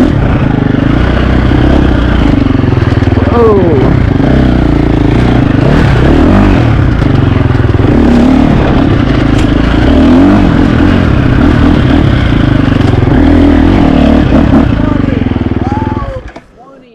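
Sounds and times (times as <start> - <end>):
dirt bike engine revving: 0.0 - 16.3.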